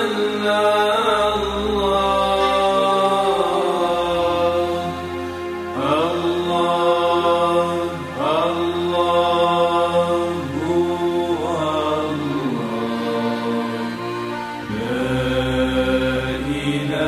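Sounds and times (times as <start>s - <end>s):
man singing a hymn: 0.0s - 5.0s, 5.8s - 13.9s, 14.7s - 17.0s
steady low drone: 0.0s - 17.0s.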